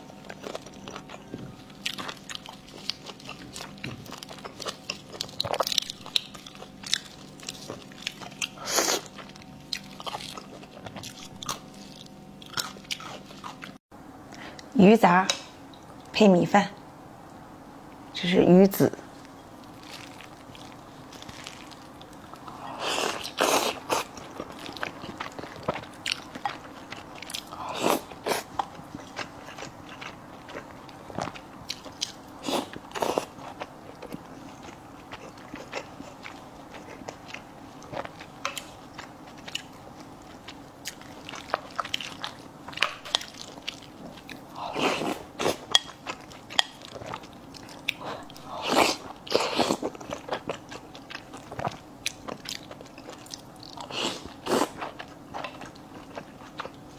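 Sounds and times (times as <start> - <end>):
close chewing mouth sounds: 0.2 - 13.8, 19.2 - 56.9.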